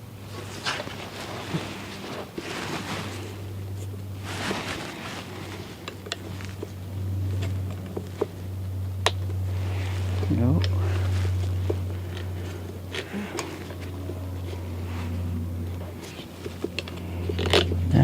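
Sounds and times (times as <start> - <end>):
steady low hum: 0.0 - 18.0
plastic scraping: 0.3 - 18.0.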